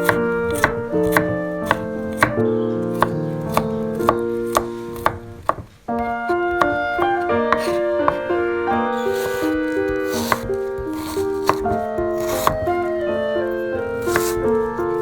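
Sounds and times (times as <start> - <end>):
knife chopping on cutting board: 0.0 - 8.2, 9.0 - 15.0
piano music: 0.0 - 15.0.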